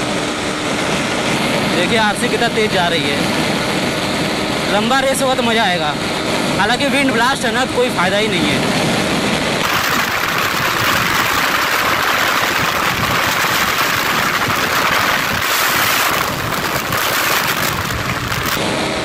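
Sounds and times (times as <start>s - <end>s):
wind roaring over microphone: 0.0s - 19.0s.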